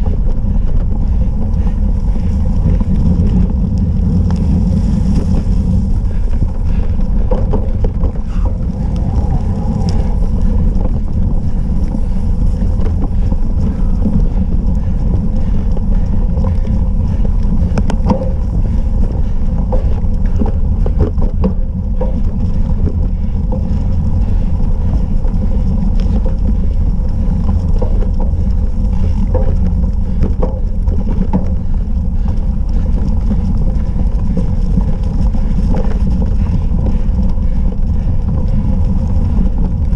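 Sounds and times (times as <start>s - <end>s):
bike rattling over bumps: 0.0s - 39.9s
wind buffeting microphone: 0.0s - 39.9s.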